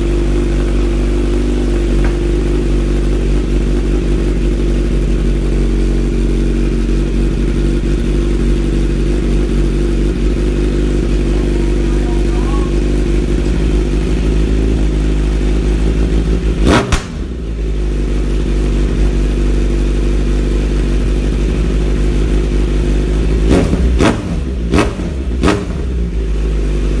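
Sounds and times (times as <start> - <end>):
motorcycle engine idling: 0.0 - 27.0
motorcycle throttle blips: 0.0 - 27.0.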